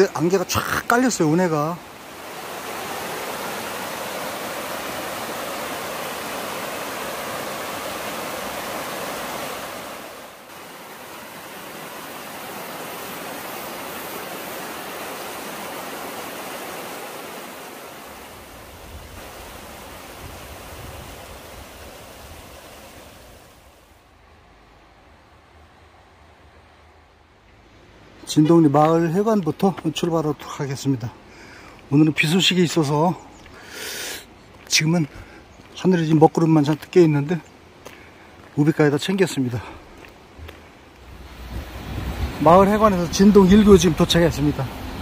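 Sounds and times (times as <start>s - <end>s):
stream rushing over rocks: 0.0s - 24.1s, 27.8s - 45.0s.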